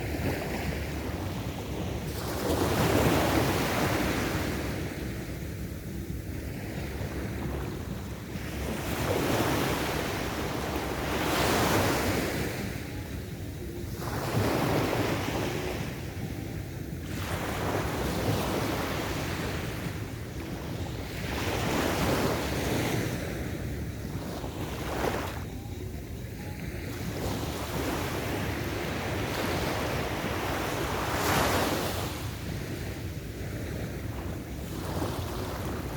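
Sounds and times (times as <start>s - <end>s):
waves breaking on a beach: 0.0s - 35.9s.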